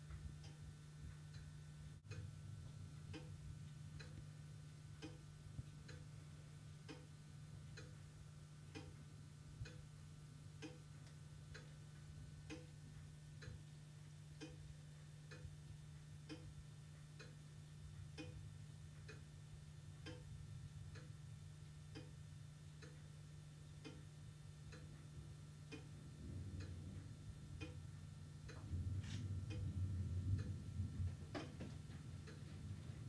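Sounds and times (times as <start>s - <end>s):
faint regular ticking: 0.0s - 33.0s
steady low hum: 0.0s - 33.0s.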